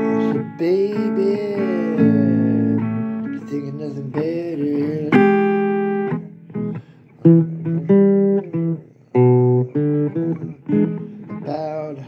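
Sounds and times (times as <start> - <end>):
blues guitar chords ringing: 0.0 - 12.0.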